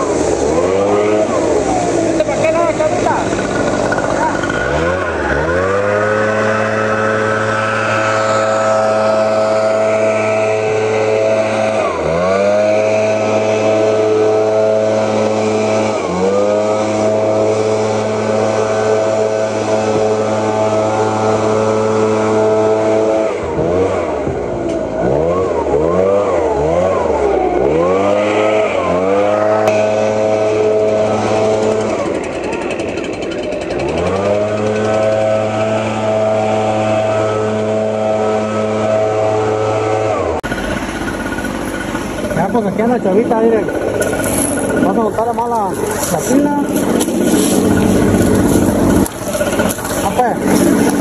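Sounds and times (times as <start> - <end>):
small two-stroke engine revving: 0.0 - 51.0.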